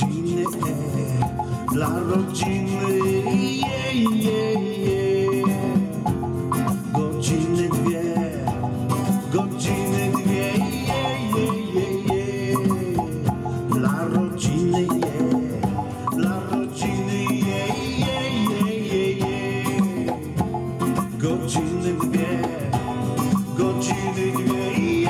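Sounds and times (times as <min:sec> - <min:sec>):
congas played by hand: 0:00.0 - 0:25.0
strummed acoustic guitar: 0:00.0 - 0:25.0.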